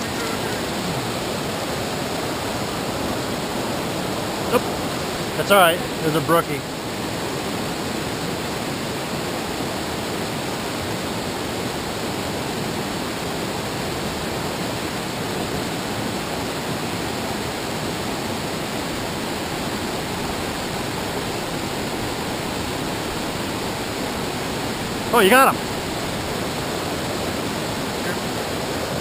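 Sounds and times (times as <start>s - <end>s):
river rapids rushing: 0.0s - 29.0s.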